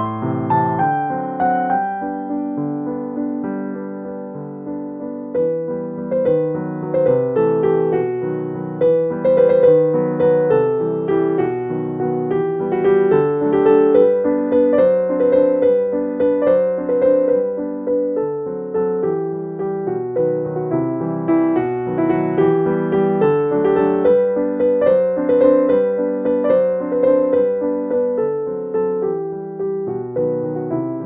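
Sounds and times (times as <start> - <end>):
piano melody: 0.0 - 31.0.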